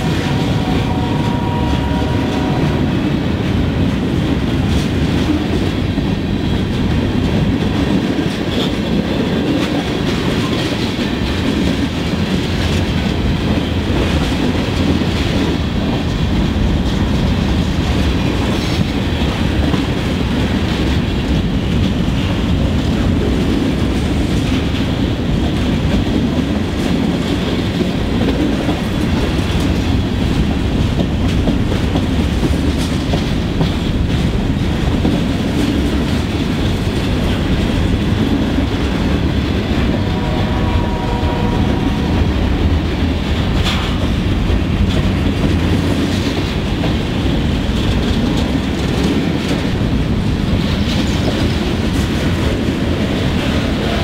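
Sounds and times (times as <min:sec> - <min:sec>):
train cars rumbling past: 0:00.0 - 0:54.0.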